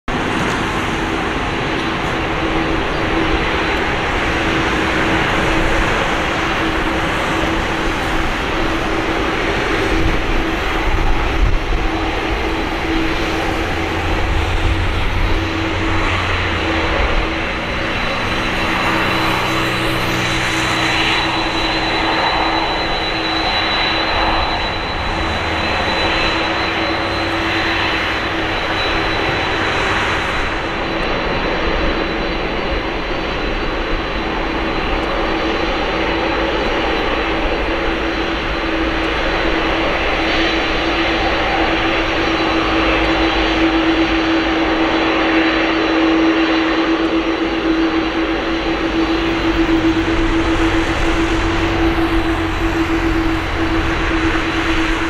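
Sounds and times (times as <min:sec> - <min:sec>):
jet engines at high power: 0:00.0 - 0:55.0.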